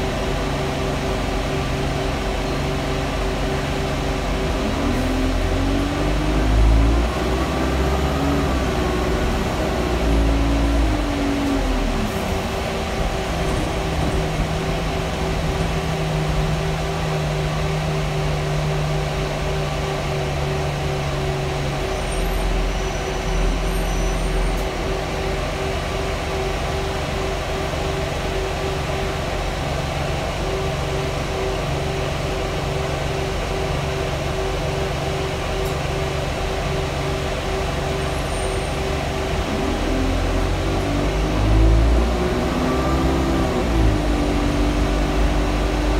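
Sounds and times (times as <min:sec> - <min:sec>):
bus diesel engine: 0:00.0 - 0:45.9
loud fan drone: 0:00.0 - 0:45.9.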